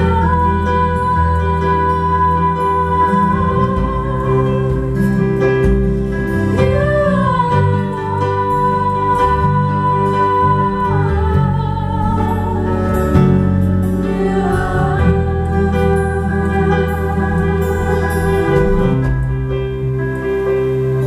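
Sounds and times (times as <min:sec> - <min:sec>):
woman singing with vibrato: 0:00.0 - 0:05.4, 0:06.4 - 0:19.6
live band accompaniment: 0:00.0 - 0:21.0.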